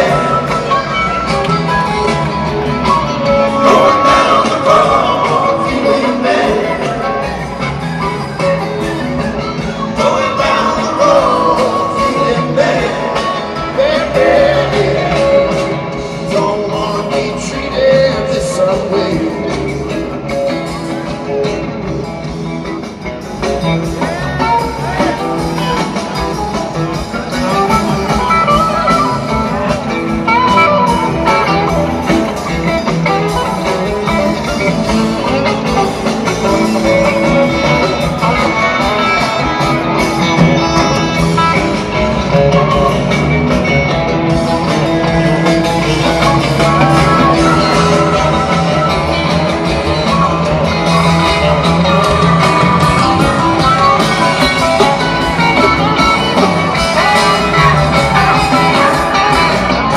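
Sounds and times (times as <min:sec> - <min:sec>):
lead electric guitar: 0:00.0 - 0:59.9
live rock band jamming: 0:00.0 - 0:59.9.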